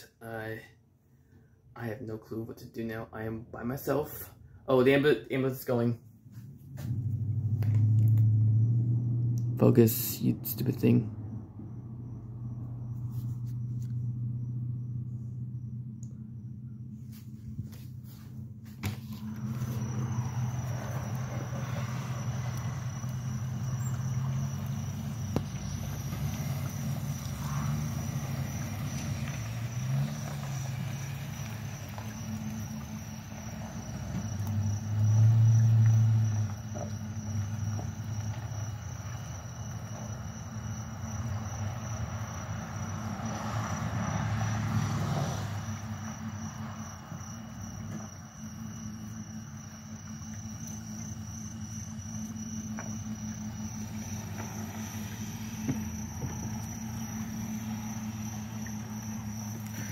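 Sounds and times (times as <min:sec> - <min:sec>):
crickets chirping: 0:00.0 - 0:59.9
vehicle engines running low: 0:05.4 - 0:59.9.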